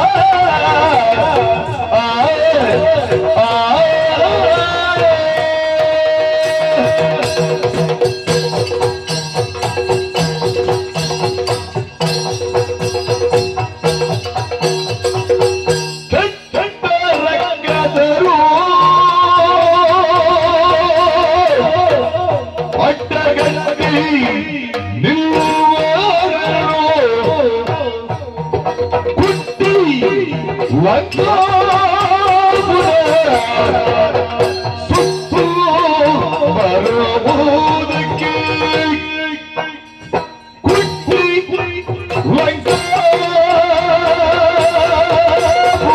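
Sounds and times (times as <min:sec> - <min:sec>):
hand drums beating fast: 0:00.0 - 0:45.9
jingling metal percussion: 0:00.0 - 0:45.9.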